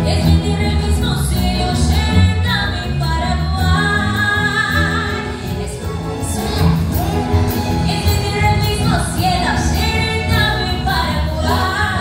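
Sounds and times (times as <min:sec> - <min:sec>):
woman singing into a microphone: 0:00.0 - 0:06.8, 0:07.8 - 0:12.0
orchestra with strings: 0:00.0 - 0:12.0
steady bass: 0:00.0 - 0:12.0.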